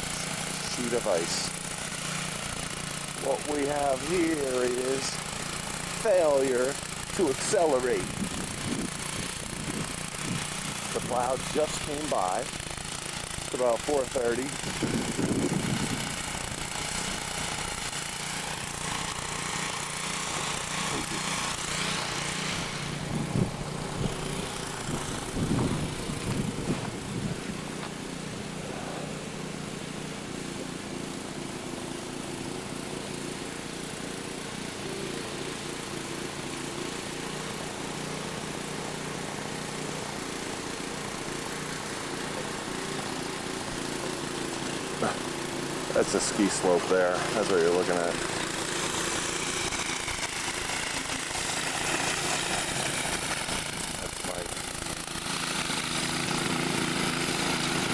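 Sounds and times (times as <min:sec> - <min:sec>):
engine running steadily: 0:00.0 - 0:57.9.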